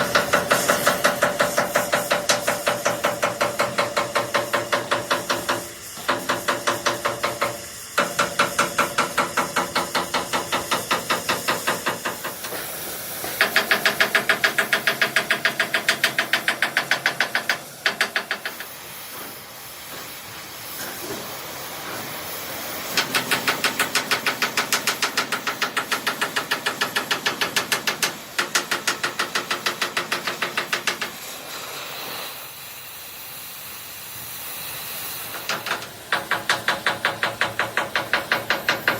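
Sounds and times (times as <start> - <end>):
hissing noise: 0.0 - 38.9.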